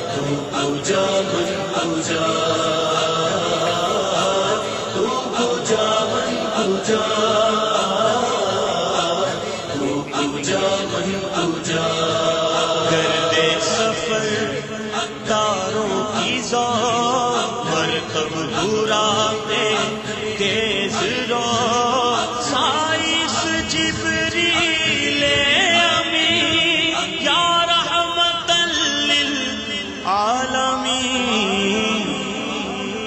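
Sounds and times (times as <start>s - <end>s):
voices chanting a devotional song: 0.0s - 33.0s.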